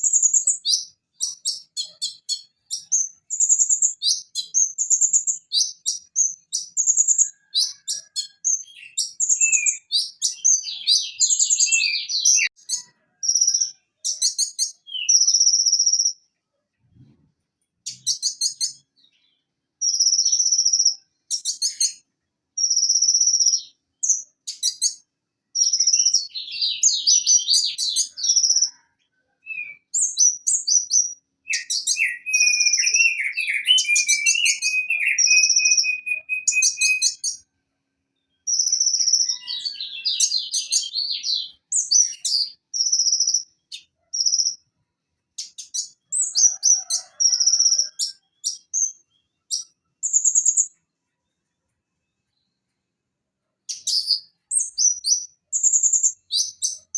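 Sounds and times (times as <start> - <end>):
bird singing chirps and trills: 0.0 - 16.2, 17.8 - 25.0, 25.6 - 37.4, 38.2 - 44.7, 45.4 - 50.8, 53.7 - 56.9.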